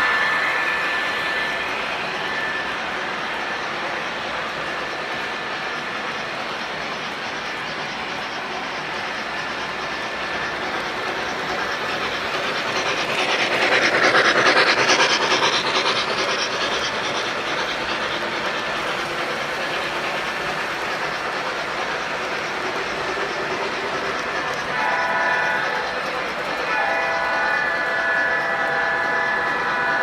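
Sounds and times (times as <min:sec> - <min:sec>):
model train motors whirring: 0:00.0 - 0:30.0
model train wheels clattering: 0:02.4 - 0:30.0.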